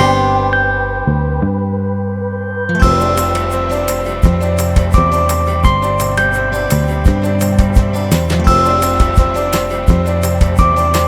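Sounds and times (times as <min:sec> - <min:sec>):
melodic background music with beat: 0:00.0 - 0:11.0.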